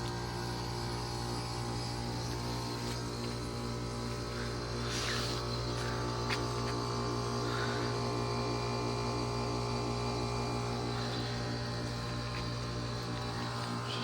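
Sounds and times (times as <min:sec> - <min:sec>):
heat pump deep hum: 0:00.0 - 0:14.0.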